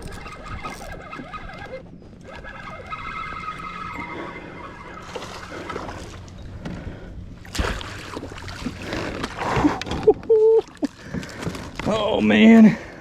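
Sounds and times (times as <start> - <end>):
water sloshing and splashing: 0.0 - 12.6.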